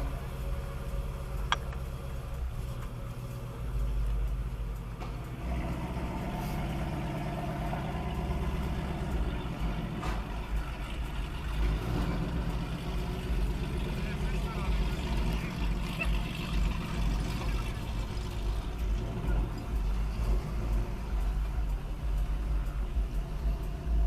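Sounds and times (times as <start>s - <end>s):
car engine hum from inside: 0.0s - 24.0s.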